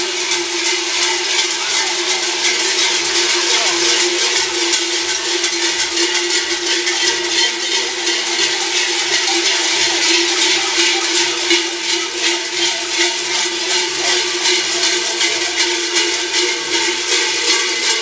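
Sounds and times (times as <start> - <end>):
large cowbells clanging: 0.0 - 18.0.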